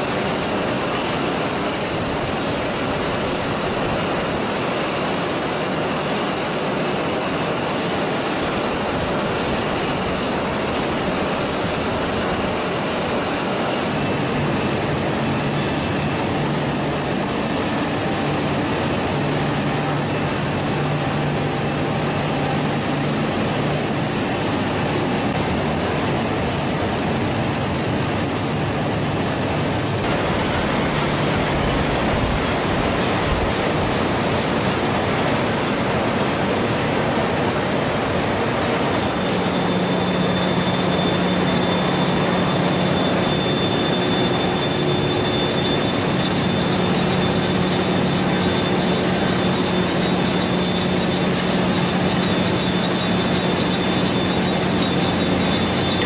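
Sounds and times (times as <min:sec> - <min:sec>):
machinery running with low hum: 0:00.0 - 0:56.0
steady high whine: 0:00.0 - 0:56.0.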